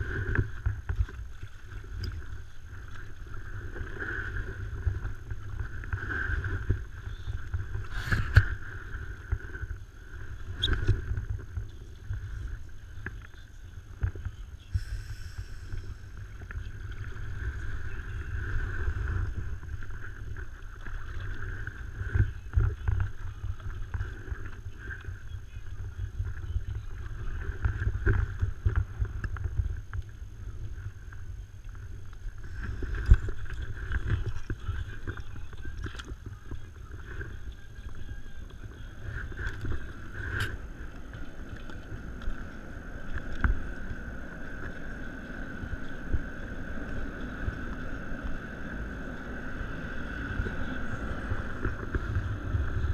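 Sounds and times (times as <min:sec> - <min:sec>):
low rumble: 0:00.0 - 0:52.9
paddle water splashing: 0:00.0 - 0:52.9.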